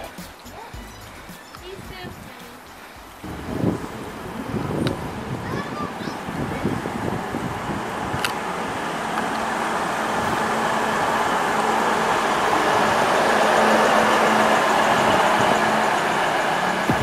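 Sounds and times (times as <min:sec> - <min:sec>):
diesel railcar engine hum: 0:00.0 - 0:17.0
train wheels rolling on rails: 0:01.3 - 0:17.0.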